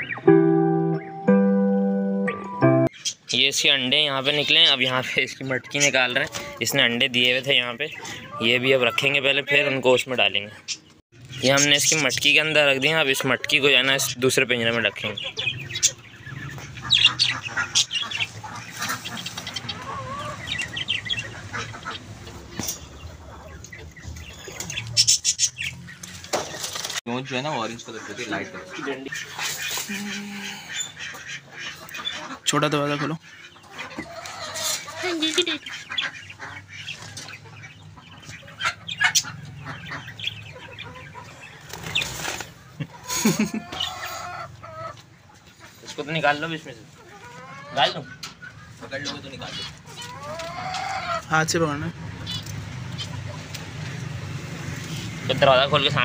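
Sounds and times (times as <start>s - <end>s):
cage birds chirping: 0.0s - 56.0s
chickens clucking: 0.0s - 56.0s.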